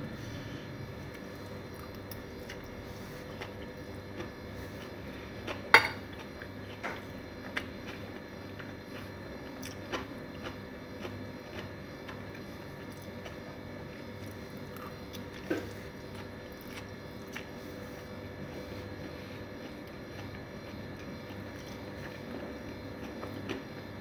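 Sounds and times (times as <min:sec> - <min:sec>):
steady low hum: 0:00.0 - 0:24.0
person chewing noodles: 0:01.0 - 0:24.0.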